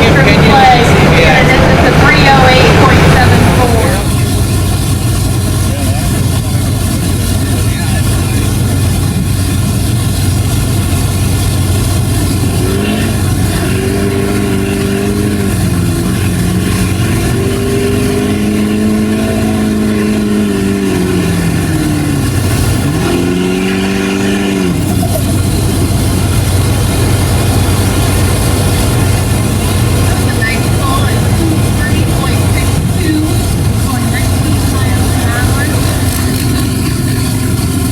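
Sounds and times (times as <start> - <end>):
diesel truck engine revving: 0.0 - 37.9
steady low drone: 0.0 - 37.9.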